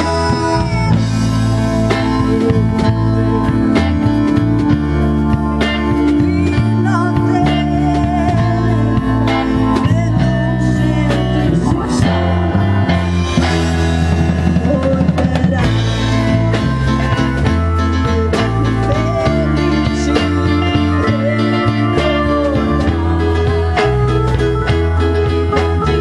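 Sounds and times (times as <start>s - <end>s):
acoustic and electric guitars: 0.0s - 26.0s
bass: 0.0s - 26.0s
drums: 0.0s - 26.0s
keyboard: 0.0s - 26.0s.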